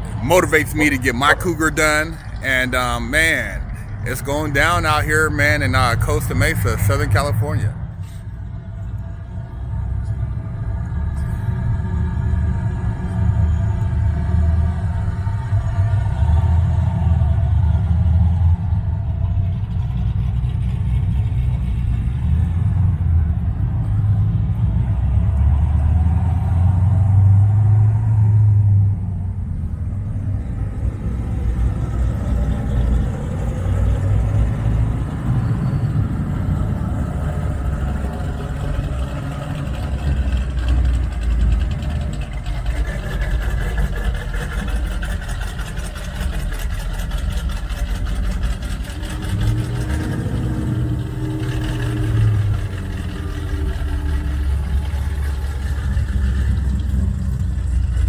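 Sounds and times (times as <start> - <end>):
car engines driving past: 0.0 - 58.0.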